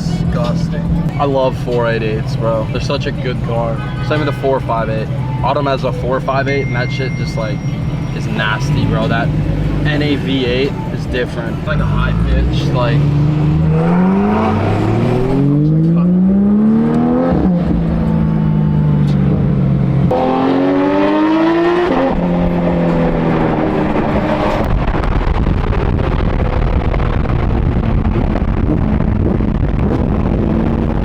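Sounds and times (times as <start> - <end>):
road noise: 0.0 - 31.0
car engine accelerating: 4.6 - 31.0.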